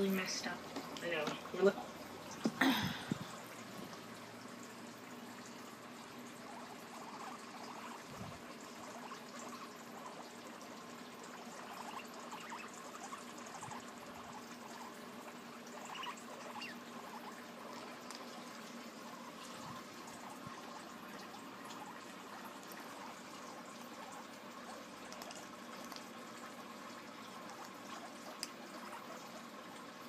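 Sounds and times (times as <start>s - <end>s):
guinea pigs nibbling: 0.0s - 30.0s
low steady hum: 0.0s - 30.0s.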